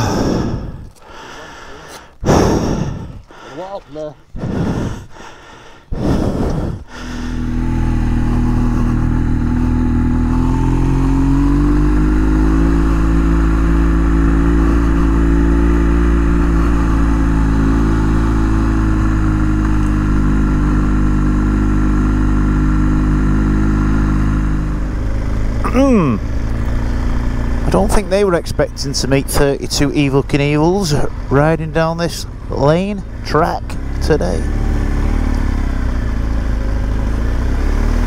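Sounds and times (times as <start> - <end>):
motorcycle engine: 0.0 - 38.0.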